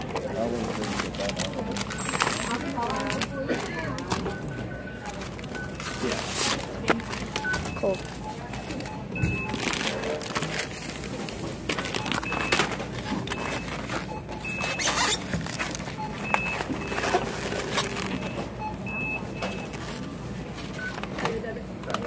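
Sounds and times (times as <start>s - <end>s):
plastic packaging rustling: 0.0s - 18.5s.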